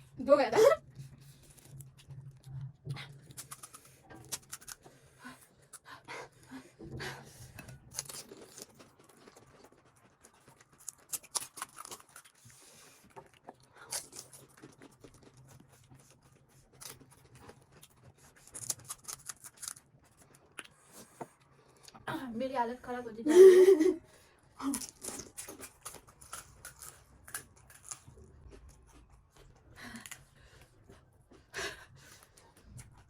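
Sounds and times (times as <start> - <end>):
crunching and wet chewing: 0.9 - 6.5, 7.4 - 22.0, 24.2 - 33.0.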